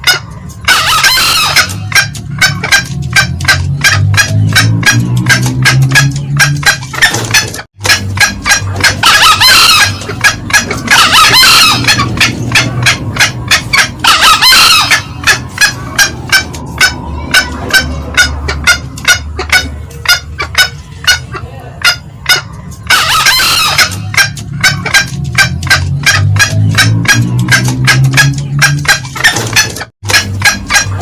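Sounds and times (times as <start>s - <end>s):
junglefowl cackling calls: 0.0s - 31.0s.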